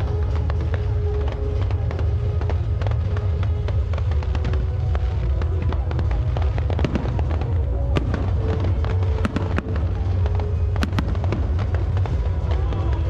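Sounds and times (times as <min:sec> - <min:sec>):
firework cracks and crackles: 0:00.0 - 0:13.0
music playing: 0:00.0 - 0:13.0
firework booms: 0:00.2 - 0:13.0.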